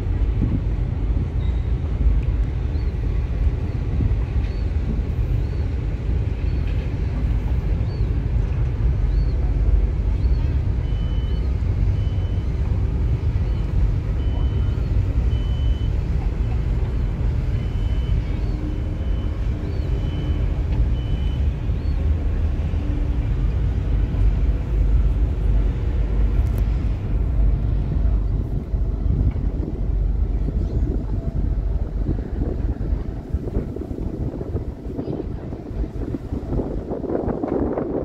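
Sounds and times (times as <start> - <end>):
ferry engine rumble: 0.0 - 38.0.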